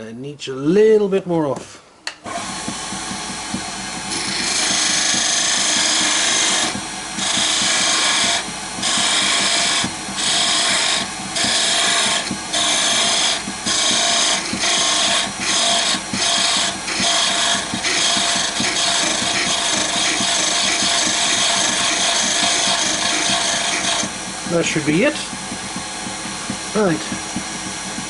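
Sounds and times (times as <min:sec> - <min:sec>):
turning tool cutting wood: 0:02.2 - 0:28.0
lathe running hum: 0:02.3 - 0:28.0.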